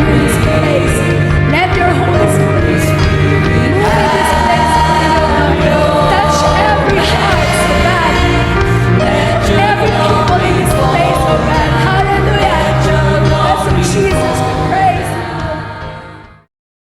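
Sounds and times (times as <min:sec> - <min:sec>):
praise band with singers: 0:00.0 - 0:16.5.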